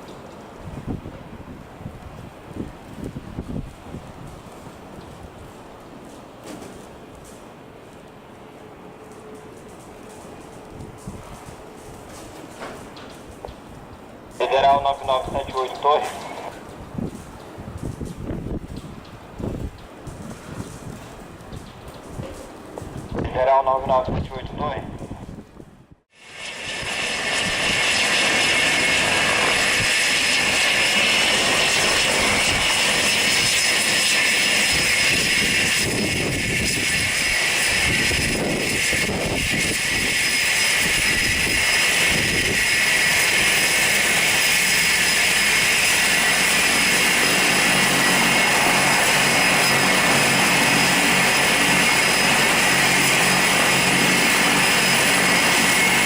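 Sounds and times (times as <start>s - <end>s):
jet engines roaring with whine: 0.0s - 56.0s.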